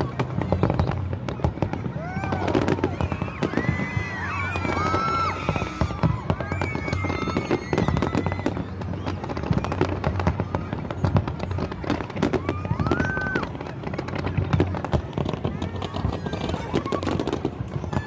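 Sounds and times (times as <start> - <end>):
fireworks crackling and popping: 0.0 - 18.0
whistling fireworks: 0.0 - 18.0.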